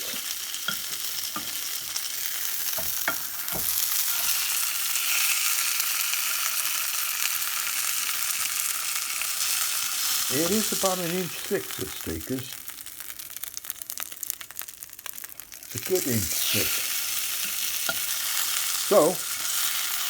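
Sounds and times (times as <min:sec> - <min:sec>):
steak sizzling in a pan: 0:00.0 - 0:20.0.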